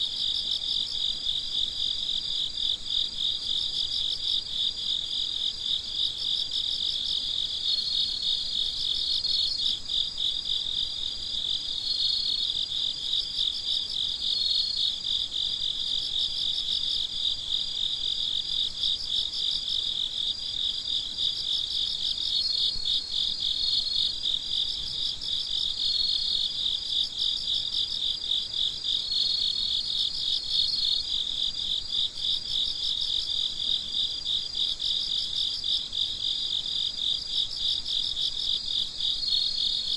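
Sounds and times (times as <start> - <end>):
chorus of crickets chirping: 0.0 - 39.9
cricket trills: 0.0 - 39.9.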